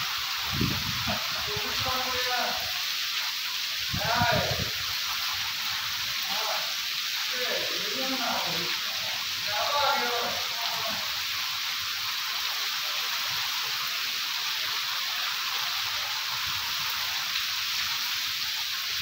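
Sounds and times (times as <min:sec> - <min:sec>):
heavy rain on roofs: 0:00.0 - 0:19.0.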